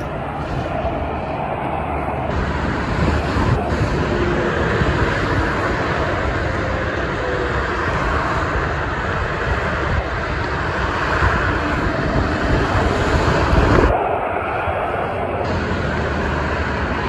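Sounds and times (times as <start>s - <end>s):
expressway traffic rushing: 0.0s - 17.0s.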